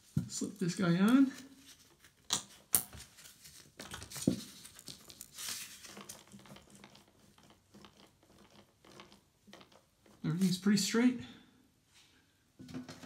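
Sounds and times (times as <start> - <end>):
gloved hand rustling: 0.0 - 10.7.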